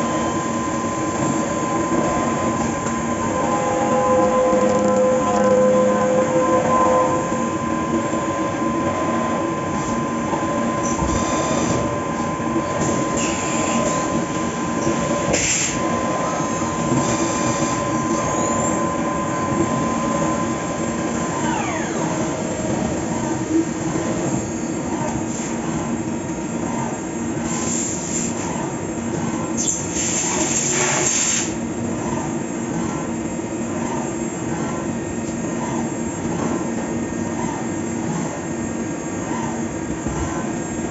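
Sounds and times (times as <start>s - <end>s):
high steady whine: 0.0s - 40.9s.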